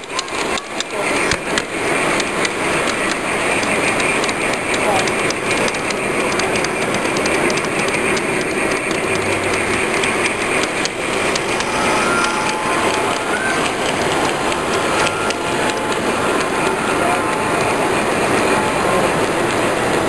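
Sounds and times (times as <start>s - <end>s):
model train rolling on track: 0.0s - 20.0s
wheels clicking over rail joints: 0.0s - 20.0s.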